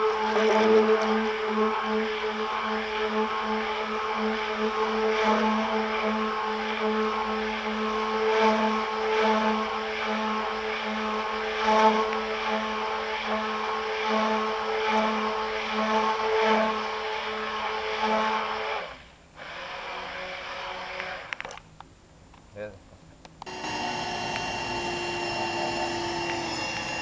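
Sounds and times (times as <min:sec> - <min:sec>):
stick blender running: 0:00.0 - 0:21.4, 0:23.4 - 0:27.0.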